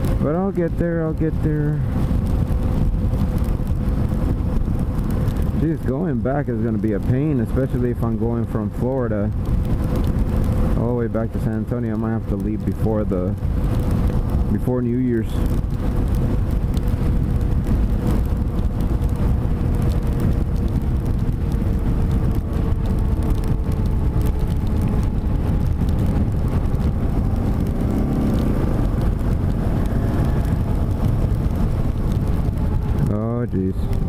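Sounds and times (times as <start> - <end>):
motorcycle engine running: 0.0 - 34.0
road noise: 0.0 - 34.0
wind noise: 0.0 - 34.0.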